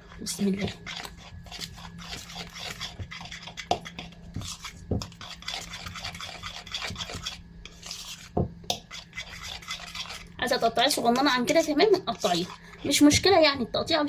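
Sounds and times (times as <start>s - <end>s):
spoon scraping around a bowl: 0.0s - 13.8s.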